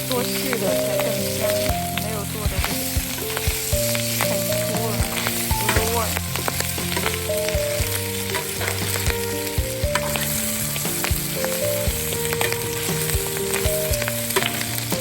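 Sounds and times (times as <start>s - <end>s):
food sizzling in a pan: 0.0s - 15.0s
spatula scraping a pan: 0.1s - 15.0s.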